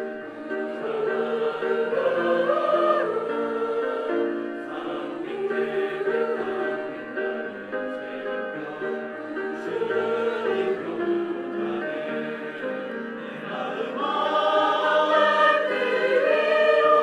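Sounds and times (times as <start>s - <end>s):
church choir singing: 0.0s - 17.0s.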